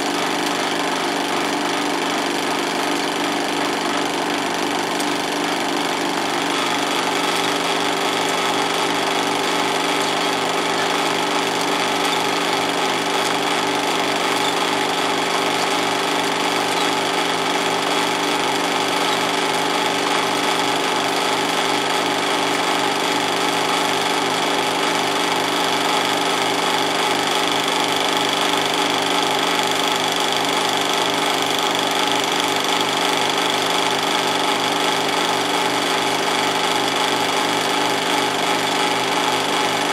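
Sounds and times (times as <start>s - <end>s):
film chattering through projector: 0.0s - 39.9s
film projector motor whirring: 0.0s - 39.9s.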